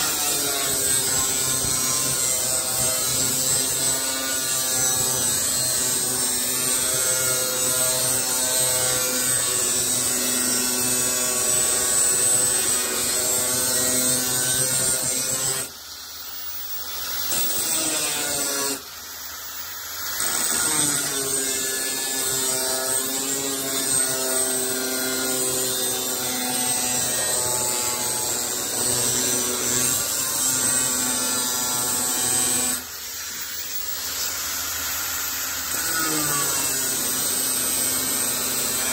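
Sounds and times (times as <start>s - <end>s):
angle grinder cutting steel: 0.0s - 38.9s.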